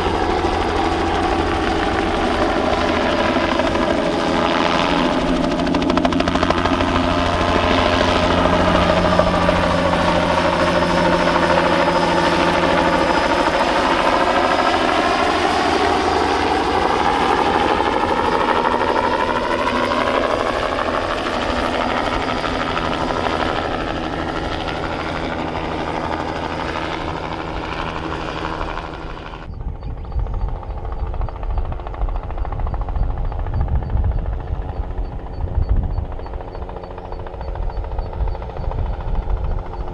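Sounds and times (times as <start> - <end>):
helicopter turbine whine and rotor: 0.0 - 39.9.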